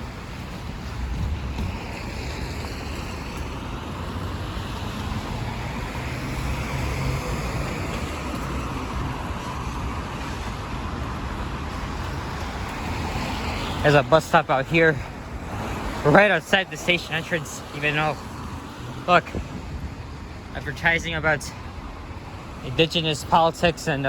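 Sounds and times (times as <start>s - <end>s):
traffic on a wet street: 0.0s - 24.0s.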